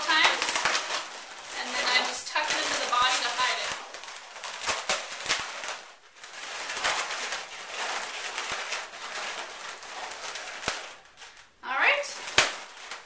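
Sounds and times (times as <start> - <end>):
balloons rubbing and rustling: 0.0 - 13.0.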